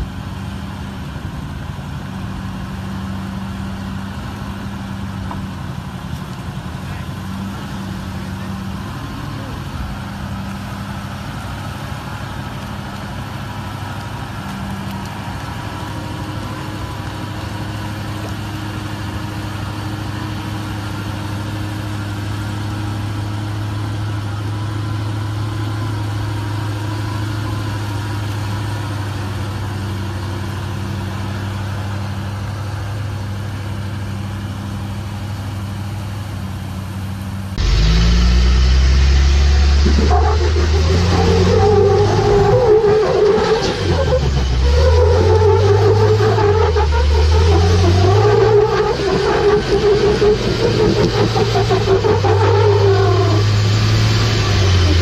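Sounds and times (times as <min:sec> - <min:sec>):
deep pickup engine: 0:00.0 - 0:55.0
diesel truck engines running: 0:00.0 - 0:55.0.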